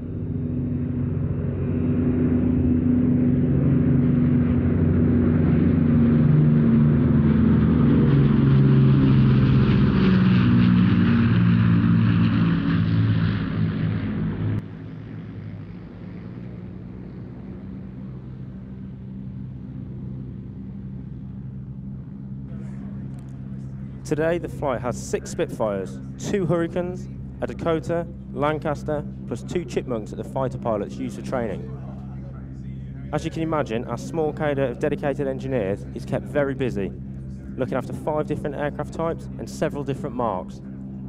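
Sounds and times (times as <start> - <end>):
aircraft piston engines droning: 0.0 - 41.0.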